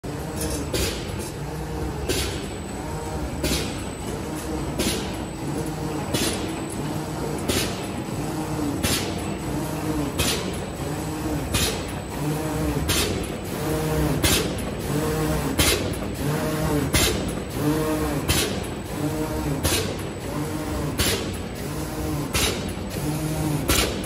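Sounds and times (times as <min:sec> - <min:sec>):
machine humming and whirring: 0:00.0 - 0:24.0.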